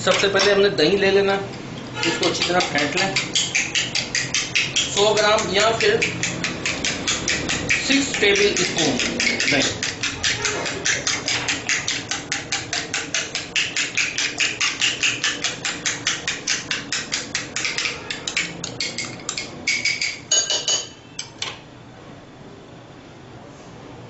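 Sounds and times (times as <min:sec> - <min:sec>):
spoon clinking against bowl: 0:01.5 - 0:21.3.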